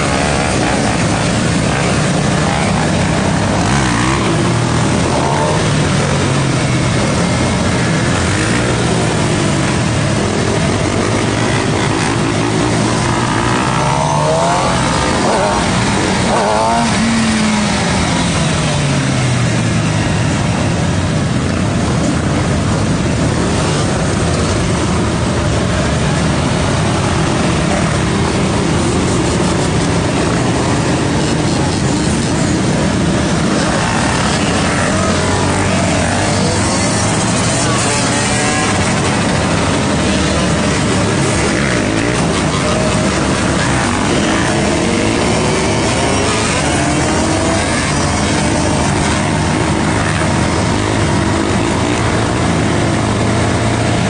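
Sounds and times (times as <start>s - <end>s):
motorcycle engine revving: 0.0s - 54.0s
other engines revving: 0.0s - 54.0s.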